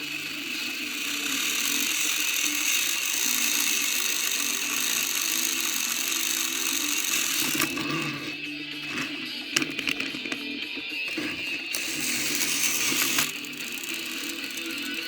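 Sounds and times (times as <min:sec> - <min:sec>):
geared mechanism whirring: 0:00.0 - 0:15.0.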